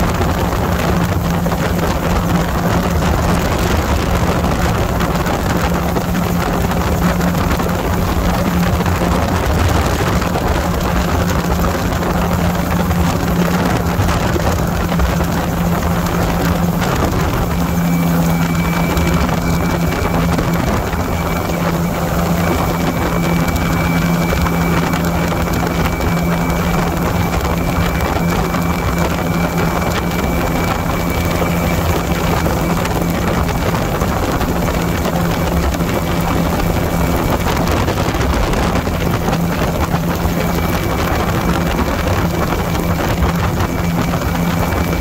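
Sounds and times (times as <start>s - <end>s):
light aircraft engine and propeller: 0.0s - 45.0s
wind rush over microphone: 0.0s - 45.0s
faint high whine: 0.1s - 45.0s.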